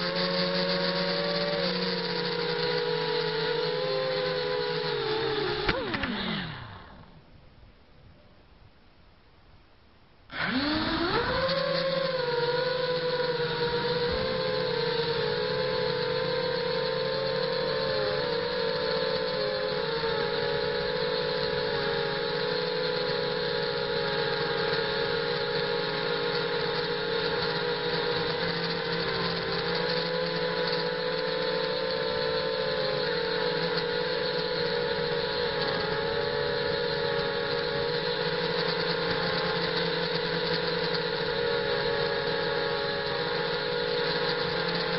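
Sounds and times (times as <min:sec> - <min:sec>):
quadcopter motors whining: 0:00.0 - 0:07.3, 0:10.3 - 0:44.9.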